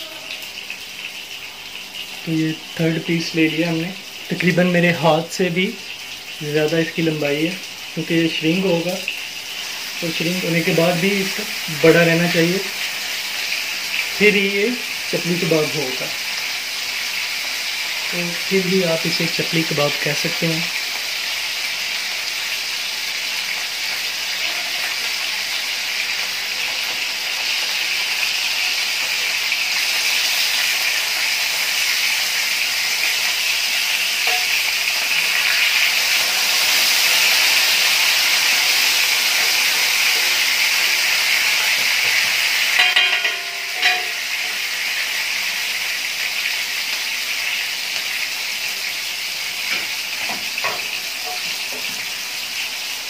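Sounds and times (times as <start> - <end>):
kababs sizzling on griddle: 0.0 - 53.0.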